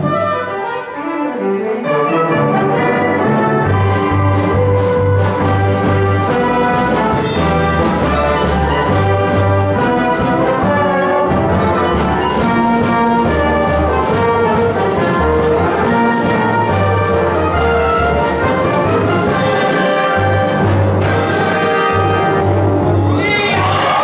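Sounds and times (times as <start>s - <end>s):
orchestra playing: 0.0s - 24.0s.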